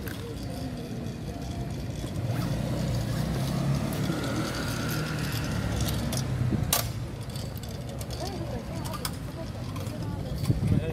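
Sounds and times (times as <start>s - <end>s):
kick scooter rolling: 0.0s - 10.9s
low hum of traffic: 0.0s - 10.9s.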